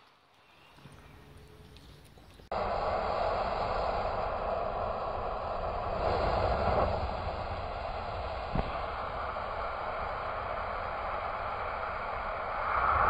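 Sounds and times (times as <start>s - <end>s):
low rumble: 0.7s - 13.0s
firecracker sparks hissing: 2.5s - 13.0s.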